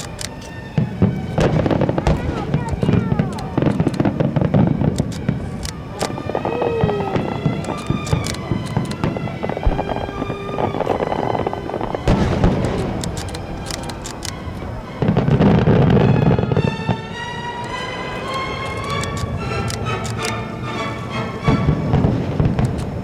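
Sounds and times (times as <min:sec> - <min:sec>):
fireworks cracks and pops: 0:00.0 - 0:20.3, 0:21.9 - 0:23.0
music playing: 0:00.0 - 0:23.0.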